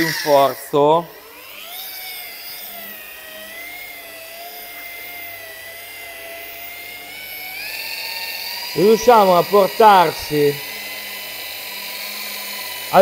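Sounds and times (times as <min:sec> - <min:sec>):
electric car polisher whine: 0:00.0 - 0:13.0.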